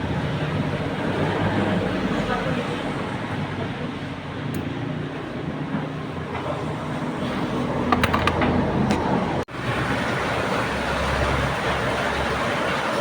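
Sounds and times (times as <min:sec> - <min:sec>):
vehicle noise with low hum: 0:00.0 - 0:13.0.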